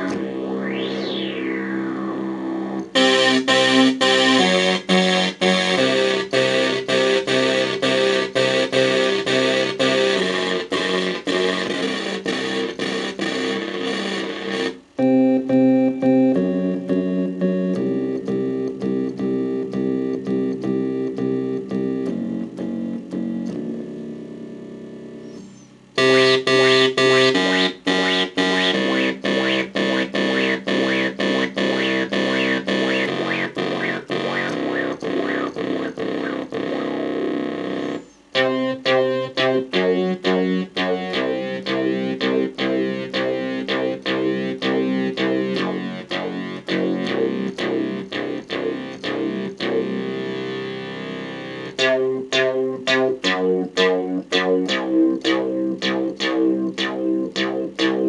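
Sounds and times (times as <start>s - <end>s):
choppy synth bass notes: 0.0s - 58.0s.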